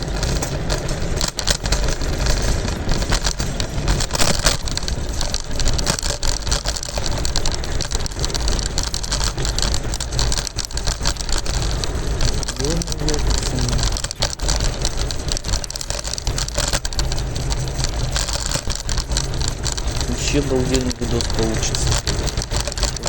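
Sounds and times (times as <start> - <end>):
scooter wheels rolling on pavement: 0.0 - 23.0.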